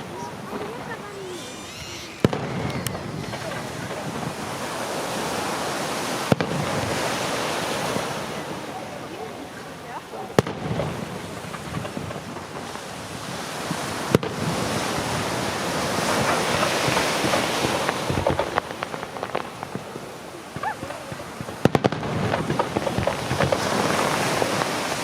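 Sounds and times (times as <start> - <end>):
firework bangs: 0.0 - 25.0
fireworks crackling hiss: 0.0 - 25.0.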